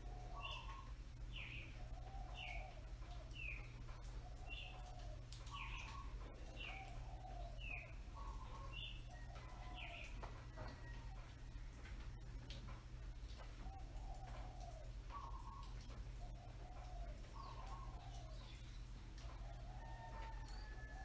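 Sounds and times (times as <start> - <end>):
birds chirping and whistling: 0.0 - 10.3, 13.6 - 21.0
low steady hum: 0.0 - 21.0.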